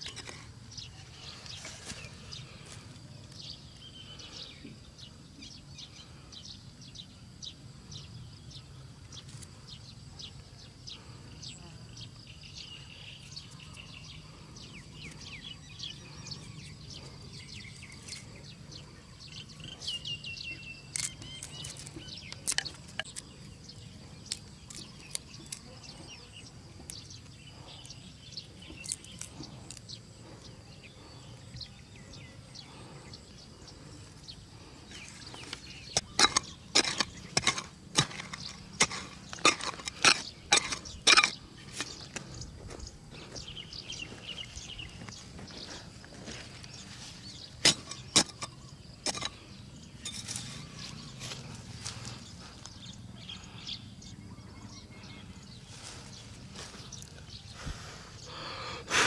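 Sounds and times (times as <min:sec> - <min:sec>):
bird chirps: 0:00.0 - 0:59.0.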